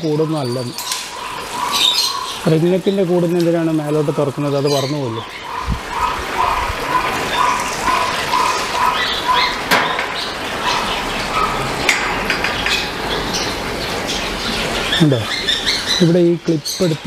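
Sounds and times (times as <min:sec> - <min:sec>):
pet birds chirping: 0:00.0 - 0:17.0
steady background noise: 0:00.0 - 0:17.0.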